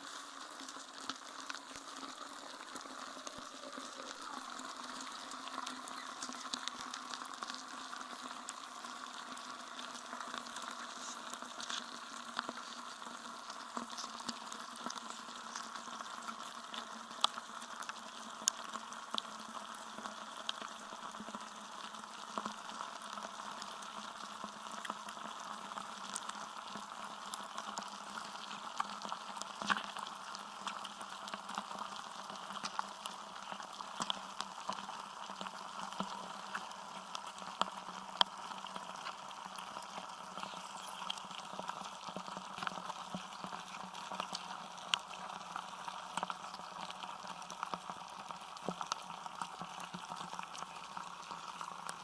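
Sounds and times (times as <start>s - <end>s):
crackling hiss with clicks: 0.0s - 52.0s.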